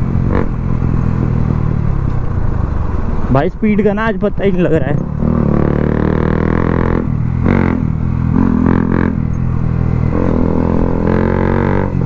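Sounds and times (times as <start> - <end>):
loud motorcycle engine: 0.0 - 3.3, 4.8 - 12.0.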